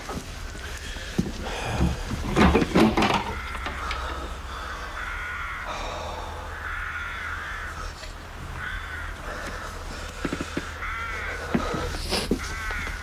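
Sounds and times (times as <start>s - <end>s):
crows cawing: 0.6s - 13.0s.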